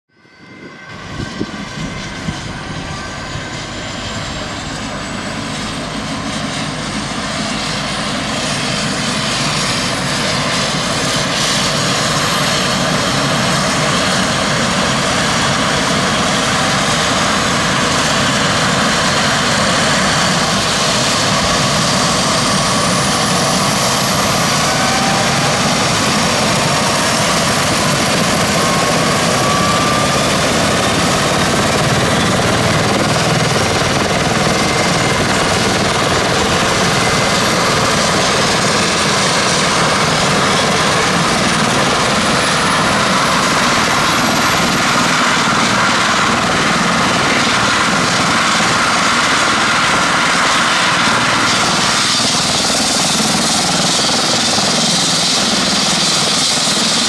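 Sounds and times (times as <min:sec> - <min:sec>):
helicopter engines and rotor: 0:00.1 - 0:57.0
turbine whine: 0:00.1 - 0:57.0.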